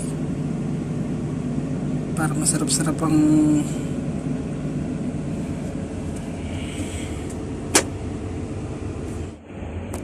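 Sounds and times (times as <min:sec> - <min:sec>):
air conditioning running: 0:00.0 - 0:10.0
diesel engine idling: 0:00.0 - 0:10.0.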